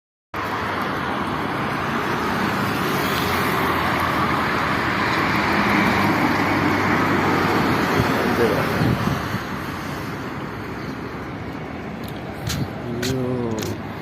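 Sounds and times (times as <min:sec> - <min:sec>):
road noise: 0:00.3 - 0:14.0
vehicle engine humming: 0:00.4 - 0:14.0.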